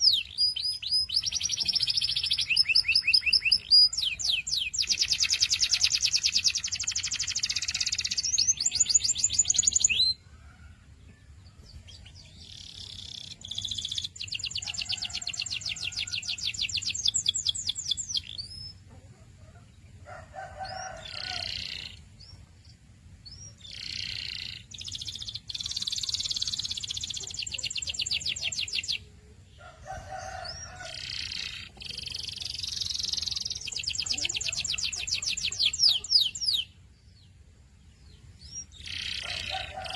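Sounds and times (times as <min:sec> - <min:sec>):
canary singing trills: 0:00.0 - 0:10.3, 0:11.6 - 0:19.8, 0:20.4 - 0:39.9.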